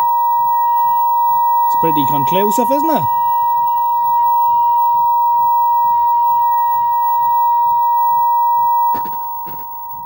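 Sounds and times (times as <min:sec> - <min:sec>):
high-pitched test tone: 0:00.8 - 0:10.0.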